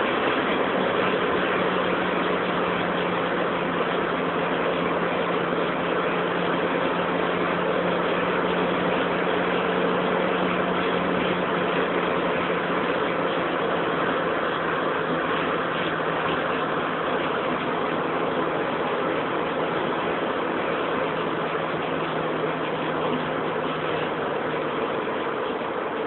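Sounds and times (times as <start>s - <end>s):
car engine drone: 0.0s - 26.0s.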